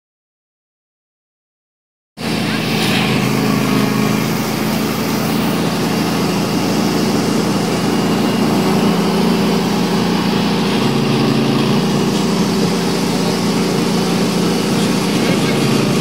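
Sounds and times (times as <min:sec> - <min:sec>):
vehicle engine running: 0:02.2 - 0:16.0.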